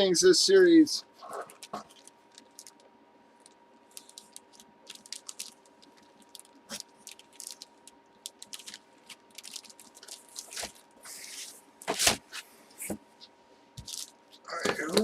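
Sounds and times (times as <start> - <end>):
plastic packaging crinkling: 1.2 - 12.3, 13.8 - 15.0.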